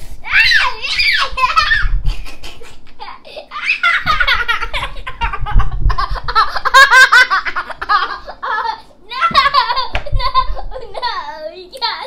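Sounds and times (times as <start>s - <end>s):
boy laughing: 1.1s - 11.4s.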